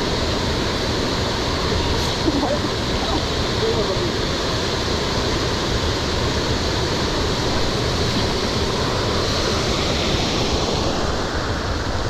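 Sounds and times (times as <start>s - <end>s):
wind and rain: 0.0s - 12.0s.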